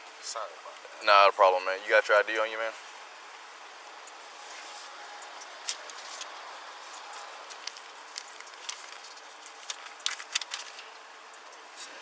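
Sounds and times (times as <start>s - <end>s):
roadside noise: 0.0s - 12.0s.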